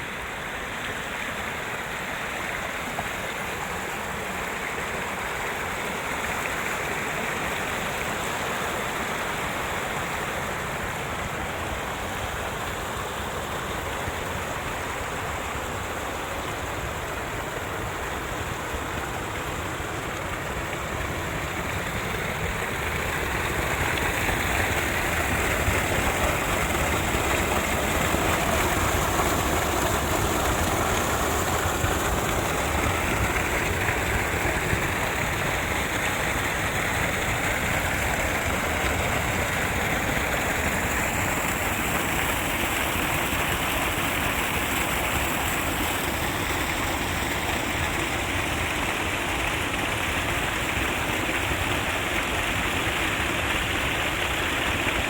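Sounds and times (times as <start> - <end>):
rushing stream water: 0.0 - 55.0.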